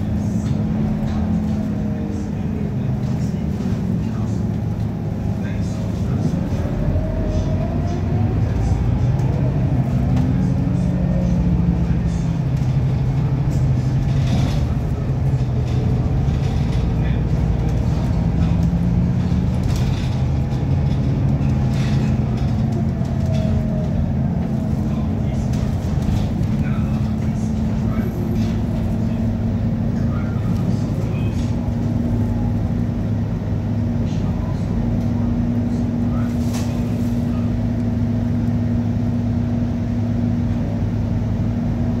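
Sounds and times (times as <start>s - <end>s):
bus engine droning: 0.0s - 42.0s.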